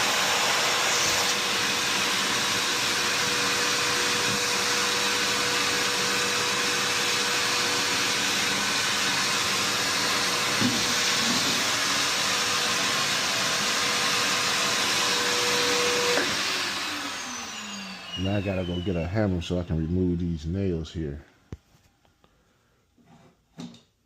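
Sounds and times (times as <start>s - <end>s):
vacuum cleaner running: 0.0s - 20.6s.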